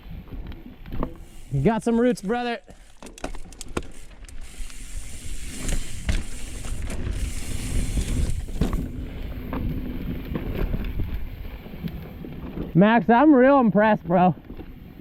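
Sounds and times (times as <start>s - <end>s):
bicycle rattling over roots: 0.4s - 15.0s.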